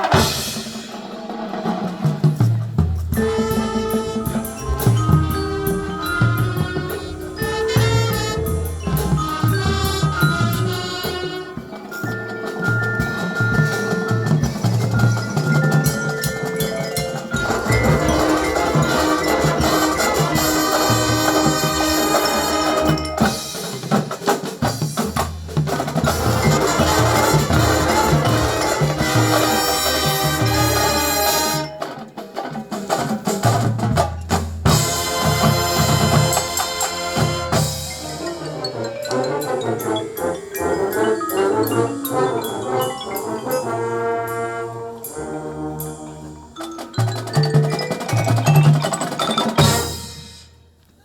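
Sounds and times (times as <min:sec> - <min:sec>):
school band playing: 0:00.0 - 0:50.6
drums: 0:00.0 - 0:51.0
marimba and glockenspiel: 0:02.2 - 0:50.6.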